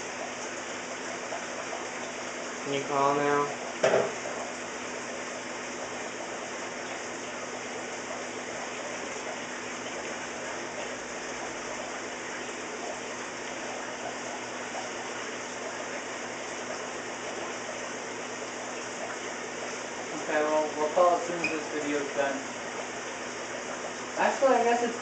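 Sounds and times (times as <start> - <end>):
water running from hoses: 0.0 - 25.0.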